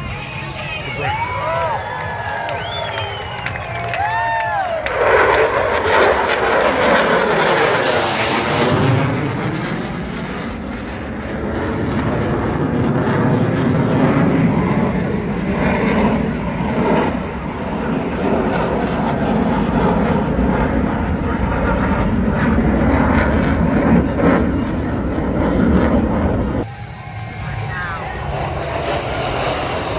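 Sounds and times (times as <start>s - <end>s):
airplane engine running: 0.0s - 29.9s.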